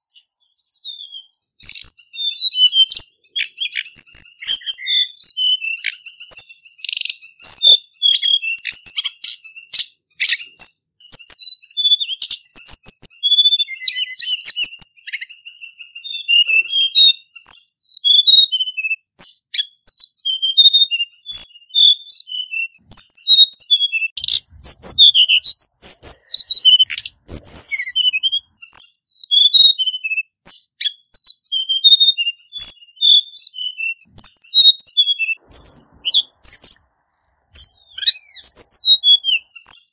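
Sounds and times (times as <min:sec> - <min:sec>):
bird singing high whistled notes: 0:00.0 - 0:39.9.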